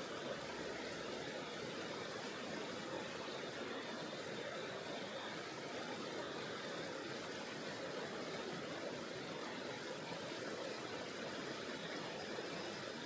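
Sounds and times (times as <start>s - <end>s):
stream water running over rocks: 0.0s - 13.0s.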